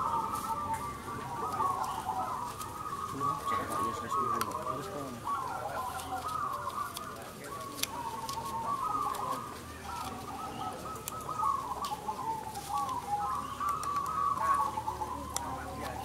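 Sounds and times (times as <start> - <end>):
doves cooing: 0.0 - 16.0.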